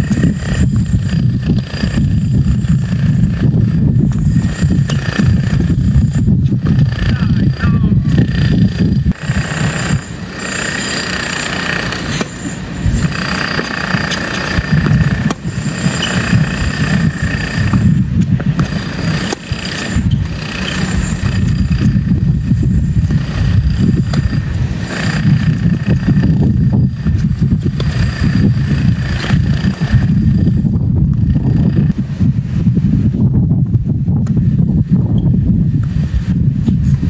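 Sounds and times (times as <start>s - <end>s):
mechanical background noise: 0.0s - 37.0s
wind buffeting microphone: 0.0s - 37.0s.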